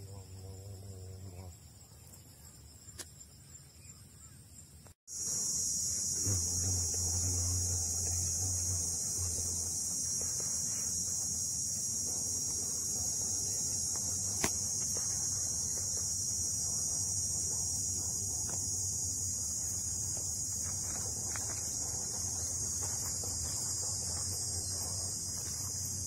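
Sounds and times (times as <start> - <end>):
insects buzzing shrilly: 0.0 - 26.0.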